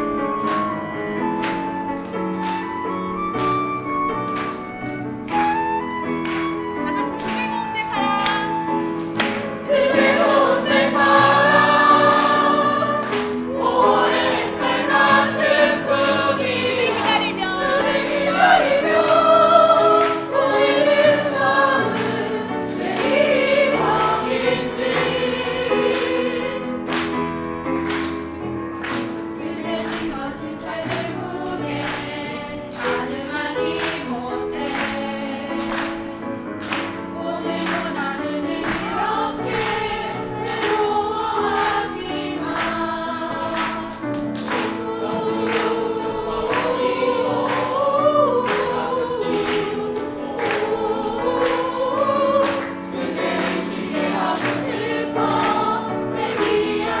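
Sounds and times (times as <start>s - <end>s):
choir singing: 0.0s - 57.0s
instrumental accompaniment: 0.0s - 57.0s.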